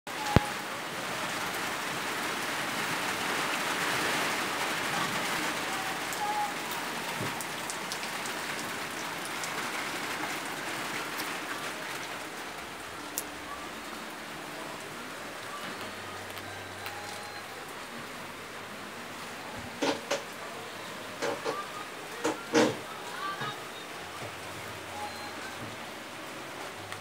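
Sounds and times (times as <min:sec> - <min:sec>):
heavy rain on a metal roof: 0:00.1 - 0:27.0.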